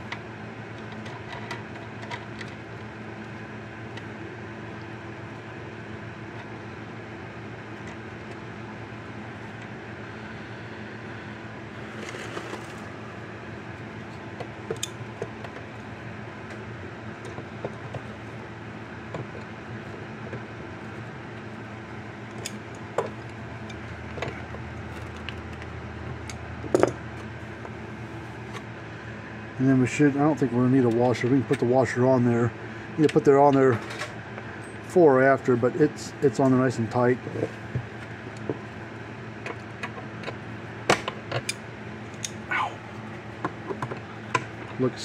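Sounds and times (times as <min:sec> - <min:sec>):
background hum: 0:00.0 - 0:45.0.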